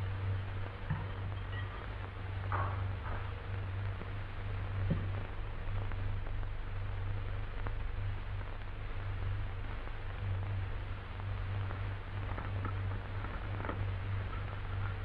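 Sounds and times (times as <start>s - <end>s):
film soundtrack hiss and hum: 0.0s - 15.0s.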